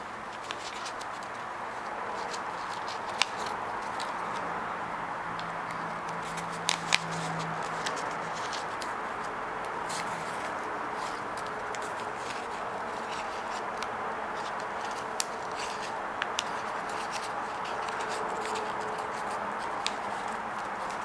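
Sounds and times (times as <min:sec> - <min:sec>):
sharp paper ticks: 0:00.3 - 0:04.6, 0:05.3 - 0:21.0
paper being creased: 0:00.4 - 0:04.5, 0:05.7 - 0:21.0.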